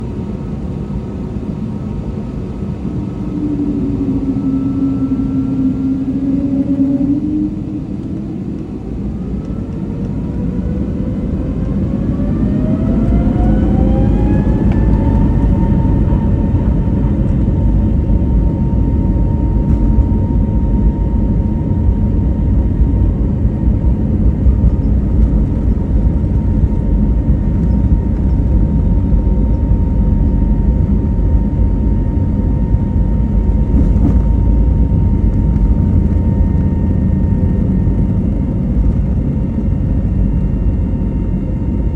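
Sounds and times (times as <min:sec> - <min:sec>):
jet engine whine: 0:00.0 - 0:41.9
heavy engine rumble: 0:02.1 - 0:41.0.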